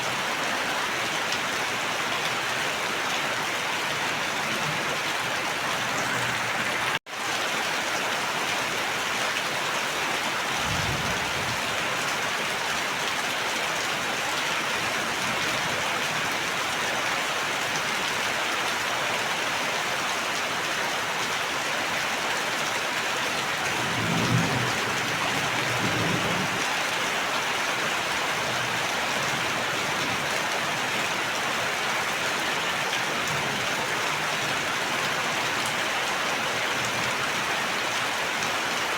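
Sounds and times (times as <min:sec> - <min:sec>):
rain pouring: 0:00.0 - 0:38.9.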